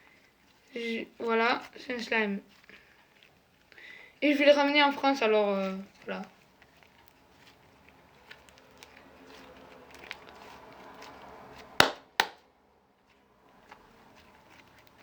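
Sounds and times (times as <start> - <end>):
faint clicks and rustling: 0.0 - 11.7, 13.0 - 15.0.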